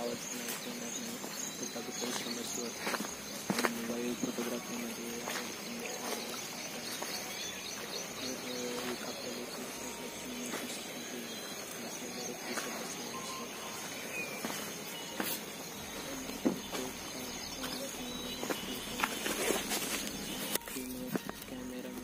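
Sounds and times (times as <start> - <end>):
bird chirps and calls: 0.0 - 22.0
high-pitched insect drone: 0.0 - 22.0.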